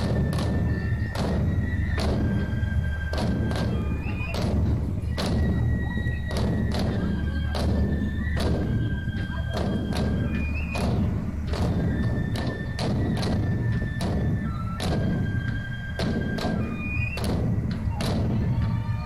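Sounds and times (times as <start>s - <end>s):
drum thumps: 0.0s - 19.0s.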